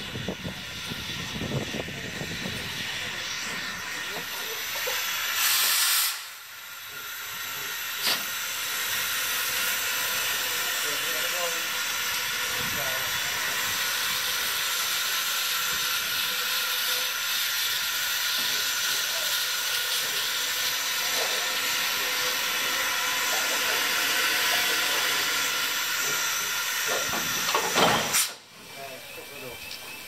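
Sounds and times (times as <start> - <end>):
steam hissing from locomotive: 0.0 - 30.0.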